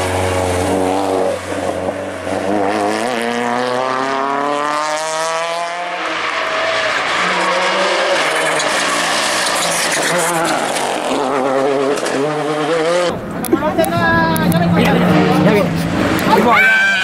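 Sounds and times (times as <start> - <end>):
rally car engine accelerating: 0.0 - 16.6.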